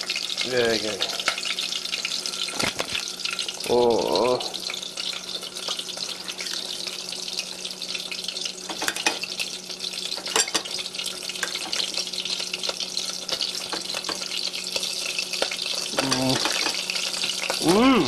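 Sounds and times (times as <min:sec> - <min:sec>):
meat sizzling in oil: 0:00.0 - 0:18.0.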